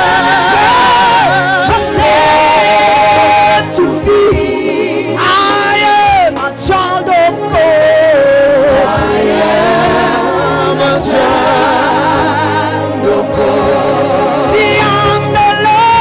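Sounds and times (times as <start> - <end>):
gospel singing with band: 0.0 - 16.0.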